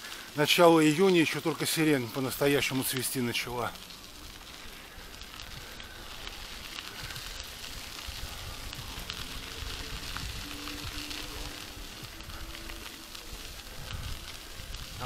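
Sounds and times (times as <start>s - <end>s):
bike tyres rolling over dirt: 0.0s - 15.0s.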